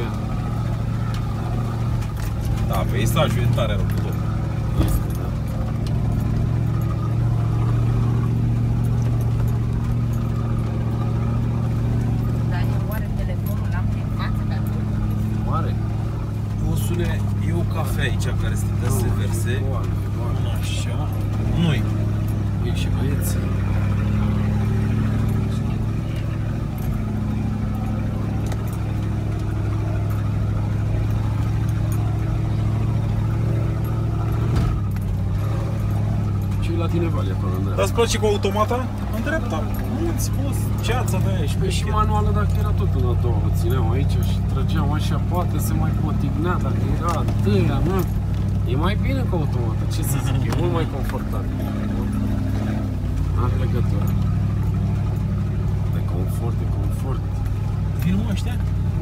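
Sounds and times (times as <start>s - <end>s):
car engine low hum: 0.0s - 59.0s.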